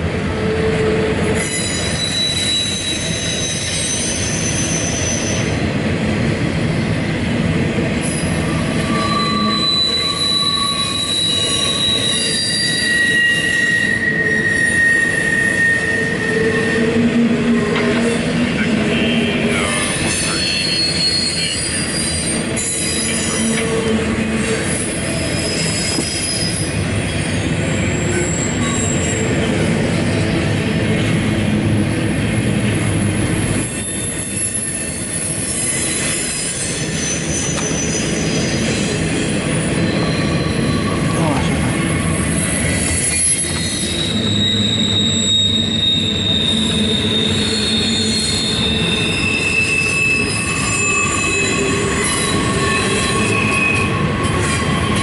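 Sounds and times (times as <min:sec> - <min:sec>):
freight train rolling past: 0:00.0 - 0:55.0
high-pitched wheel squeal: 0:00.8 - 0:05.6, 0:08.0 - 0:29.5, 0:33.5 - 0:55.0.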